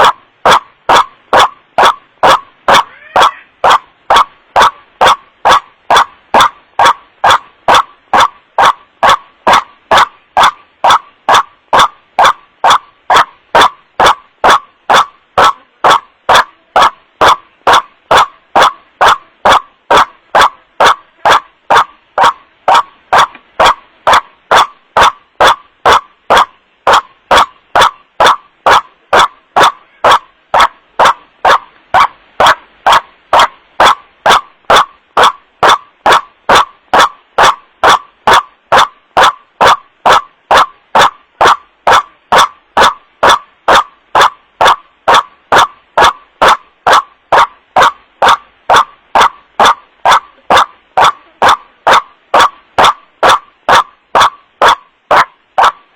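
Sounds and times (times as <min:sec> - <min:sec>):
waterhen wak-wak calls: 0:00.0 - 0:55.8.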